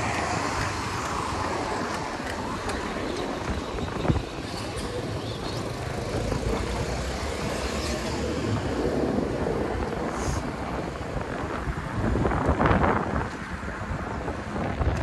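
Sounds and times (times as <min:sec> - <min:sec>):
tyre and road noise: 0:00.0 - 0:15.0
wind buffeting microphone: 0:00.0 - 0:15.0.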